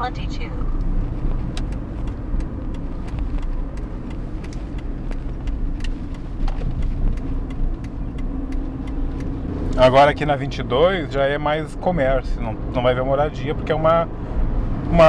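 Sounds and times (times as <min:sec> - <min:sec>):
engine and road rumble: 0:00.0 - 0:15.0
turn signal ticking: 0:00.0 - 0:15.0.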